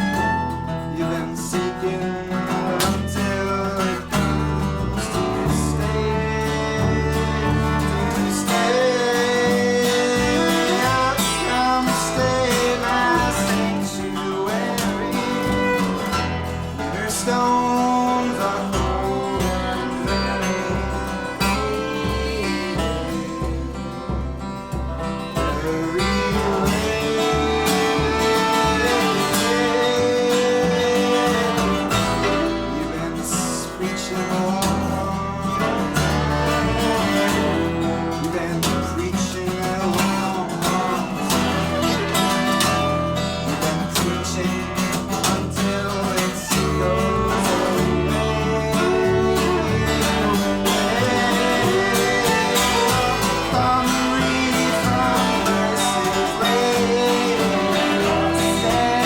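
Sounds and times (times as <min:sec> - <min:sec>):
acoustic guitar: 0:00.0 - 0:59.0
bass line: 0:00.0 - 0:59.0
bowed viola notes: 0:00.0 - 0:59.0.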